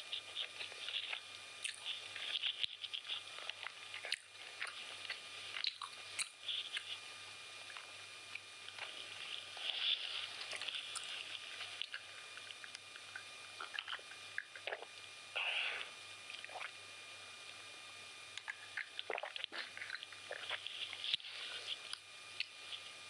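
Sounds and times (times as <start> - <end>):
wet chewing and lip smacks: 0.1 - 7.0, 7.6 - 15.1, 18.4 - 22.8.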